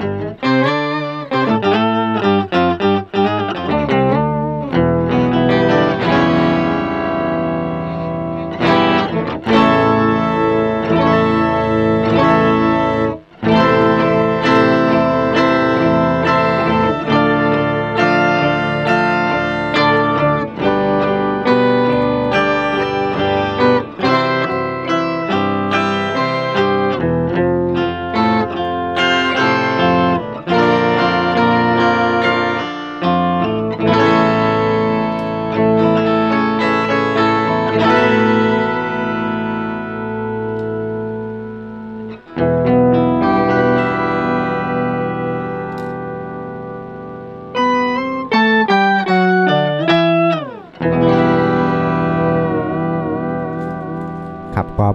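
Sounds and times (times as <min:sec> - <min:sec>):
guitar with octave effect: 0:00.0 - 0:54.9.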